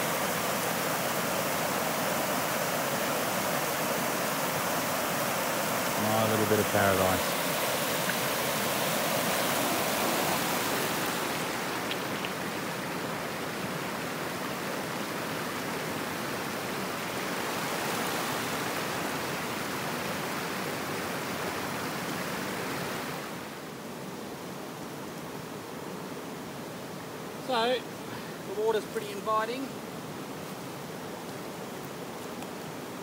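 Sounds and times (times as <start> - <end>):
creek water rushing: 0.0 - 33.0.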